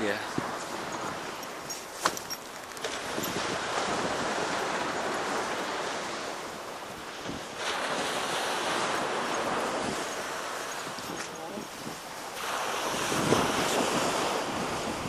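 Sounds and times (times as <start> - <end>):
wind: 0.0 - 15.0
surf breaking on beach: 2.8 - 15.0.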